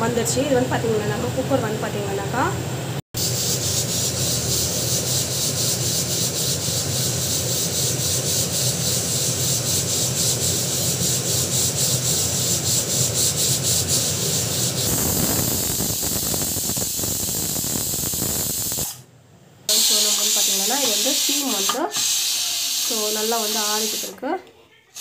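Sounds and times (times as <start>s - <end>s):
pressure cooker steam hissing: 3.2s - 19.0s, 19.7s - 24.2s.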